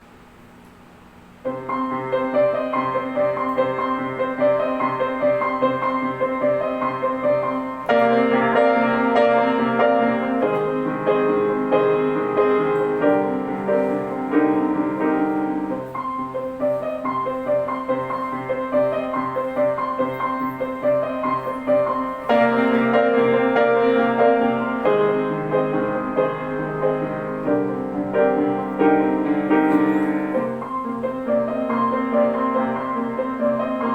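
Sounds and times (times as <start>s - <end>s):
grand piano piece: 1.2s - 33.9s.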